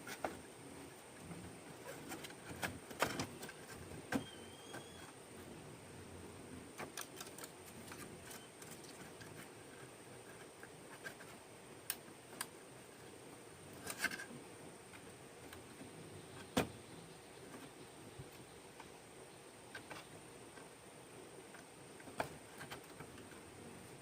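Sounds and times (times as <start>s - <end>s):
faint high-pitched hum: 0.0s - 24.0s.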